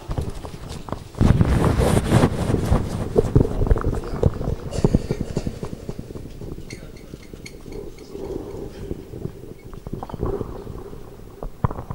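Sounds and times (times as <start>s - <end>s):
microphone handling knocks and rustles: 0.0s - 10.5s.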